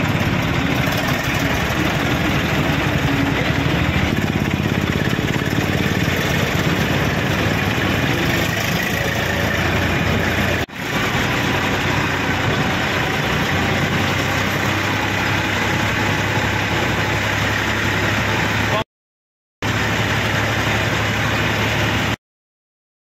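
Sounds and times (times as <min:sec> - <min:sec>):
diesel tractor engine running: 0:00.0 - 0:18.8, 0:19.6 - 0:22.2.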